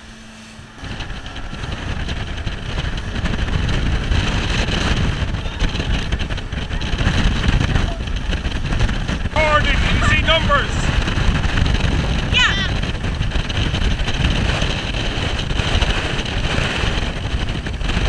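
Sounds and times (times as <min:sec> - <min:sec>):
wind buffeting the microphone: 0:00.0 - 0:18.0.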